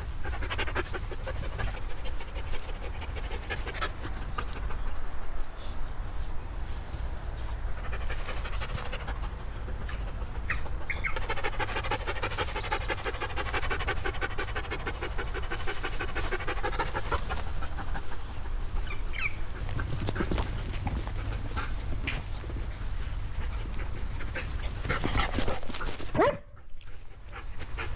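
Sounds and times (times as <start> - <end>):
dog panting: 0.0 - 5.1, 7.7 - 18.8, 19.4 - 26.0, 26.9 - 27.9.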